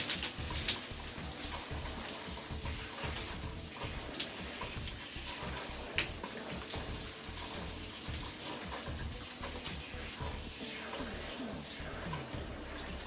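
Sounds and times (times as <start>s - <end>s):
water spraying from shower head: 0.0s - 13.0s.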